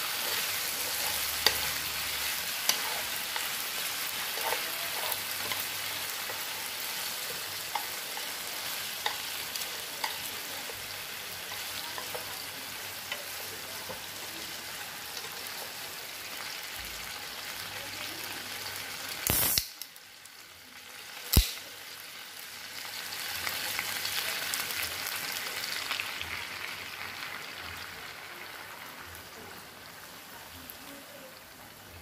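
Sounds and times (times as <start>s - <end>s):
chicken wings sizzling in a pan: 0.0s - 32.0s.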